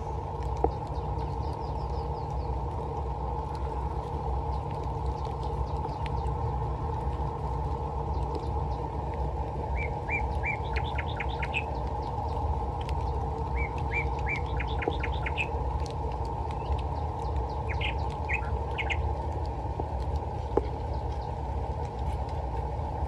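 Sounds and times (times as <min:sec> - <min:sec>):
songbird singing: 0:00.0 - 0:23.0
steady low rumble: 0:00.0 - 0:23.0.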